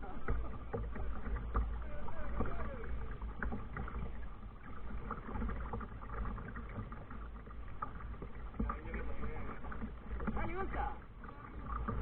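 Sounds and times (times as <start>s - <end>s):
paddle splashing against hull: 0.0s - 12.0s.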